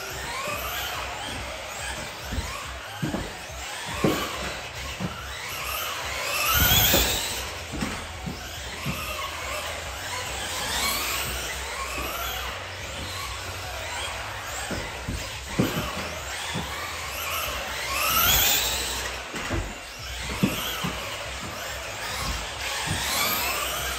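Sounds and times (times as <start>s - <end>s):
electric motor whining: 0.0s - 23.9s.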